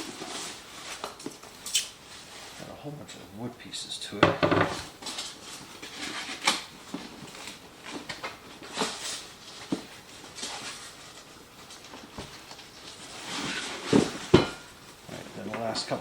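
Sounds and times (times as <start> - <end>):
rustling and scraping of parts: 0.0 - 16.0.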